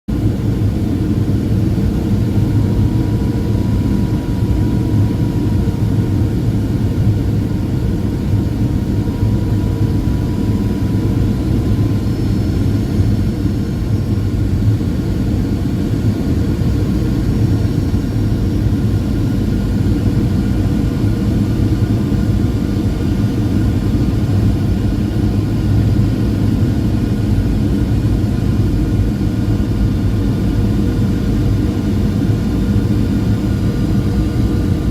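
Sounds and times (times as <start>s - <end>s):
jet engines and airflow rush: 0.1s - 34.9s
faint steady whine: 0.2s - 34.9s.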